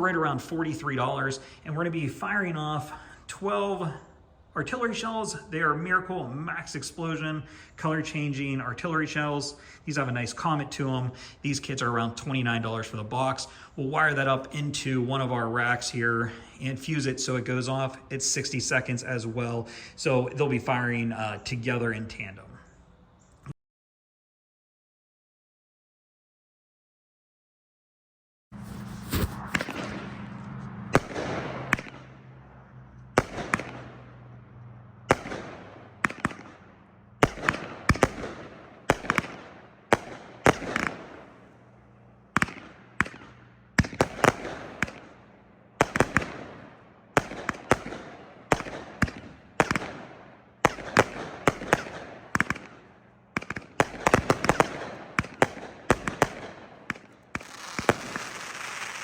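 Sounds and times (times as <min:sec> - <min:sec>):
fireworks reports: 0:00.0 - 0:22.6, 0:28.6 - 0:32.1, 0:33.2 - 0:34.0, 0:37.2 - 0:41.5, 0:42.4 - 0:45.1, 0:45.8 - 0:59.0.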